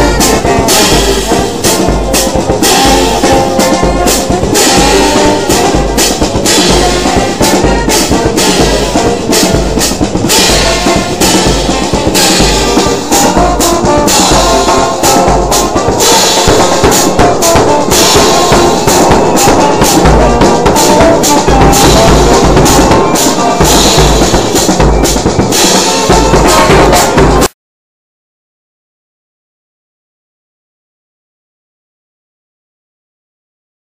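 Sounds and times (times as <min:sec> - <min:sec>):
brass band playing: 0:00.0 - 0:27.5
steady drum beat: 0:00.0 - 0:27.5.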